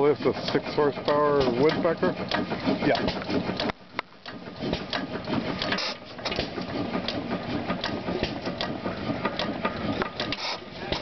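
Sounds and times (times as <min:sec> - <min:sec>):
gas engine clattering: 0:00.0 - 0:11.0
sharp engine clicks: 0:00.0 - 0:11.0.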